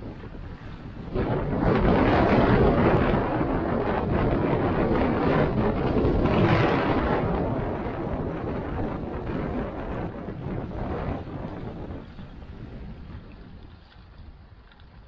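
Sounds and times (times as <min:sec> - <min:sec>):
wind buffeting: 0:00.0 - 0:15.0.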